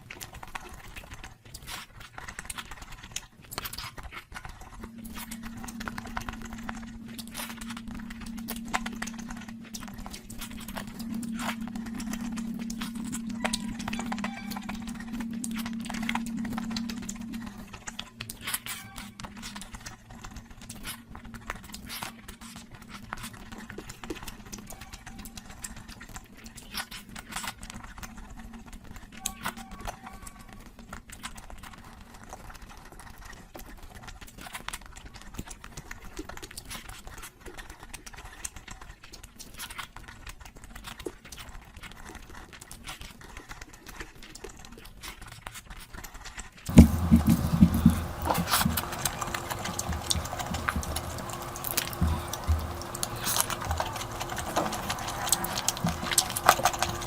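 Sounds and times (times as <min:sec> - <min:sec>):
chewing clicks and smacks: 0:00.0 - 0:57.0.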